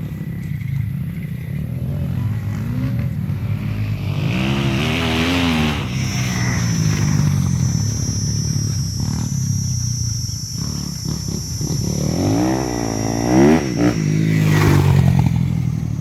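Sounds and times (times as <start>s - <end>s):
motocross bike engines revving: 0.0s - 16.0s
steady high whine: 0.0s - 16.0s.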